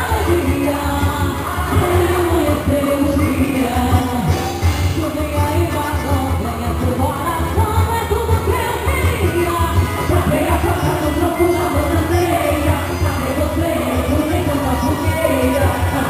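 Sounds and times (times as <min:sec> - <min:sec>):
forro music with sung vocal: 0:00.0 - 0:16.0.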